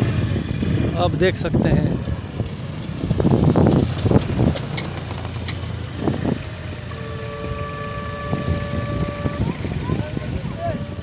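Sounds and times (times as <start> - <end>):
rally car passing: 0.0 - 11.0.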